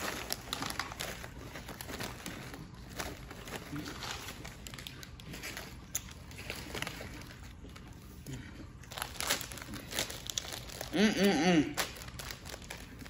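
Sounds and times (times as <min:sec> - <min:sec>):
chip bag crinkling: 0:00.0 - 0:08.0, 0:08.8 - 0:13.0.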